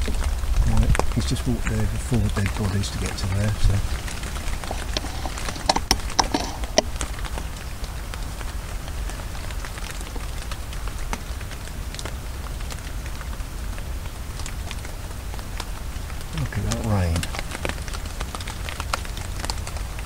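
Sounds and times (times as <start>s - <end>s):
raindrops ticking close by: 0.0s - 20.0s
steady rain falling: 0.0s - 20.0s.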